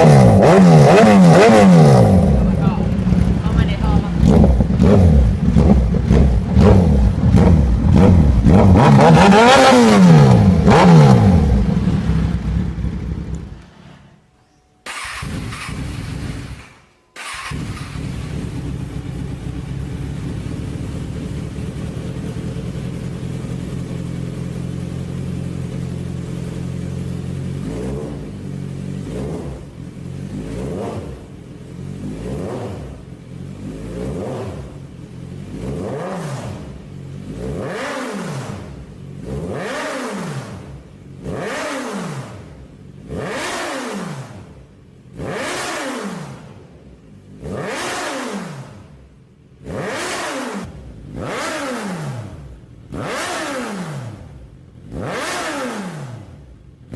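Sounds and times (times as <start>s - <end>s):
motorcycle engine idling and revving: 0.0s - 14.0s, 14.8s - 56.9s.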